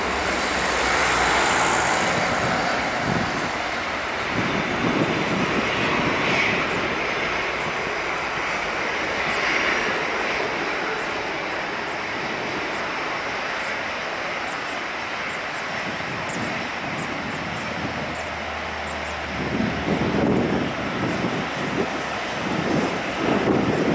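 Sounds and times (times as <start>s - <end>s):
jet engines whining at taxi power: 0.0s - 23.9s.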